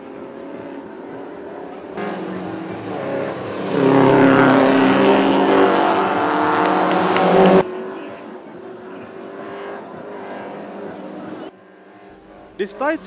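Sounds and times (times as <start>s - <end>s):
distant engine noise: 0.0s - 13.0s
race car engine accelerating: 0.0s - 13.0s.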